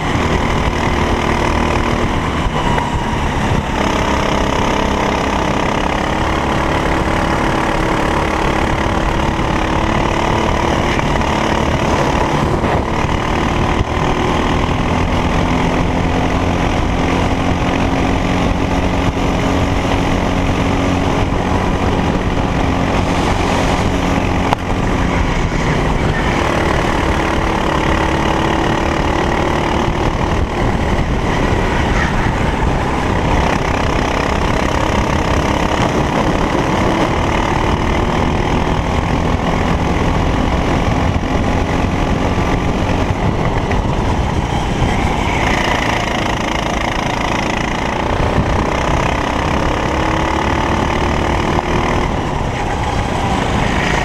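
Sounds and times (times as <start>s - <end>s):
kart engine revving: 0.0s - 54.0s
track noise: 0.0s - 54.0s
wind noise: 0.0s - 54.0s.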